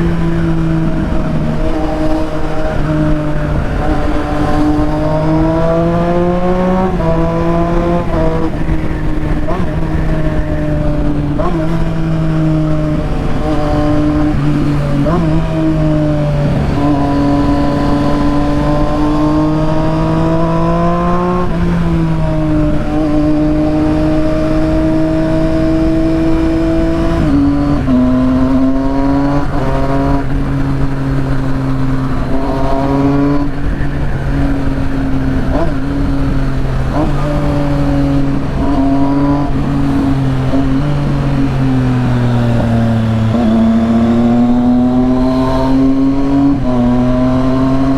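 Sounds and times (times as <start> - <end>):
motorcycle engine at high revs: 0.0 - 47.9.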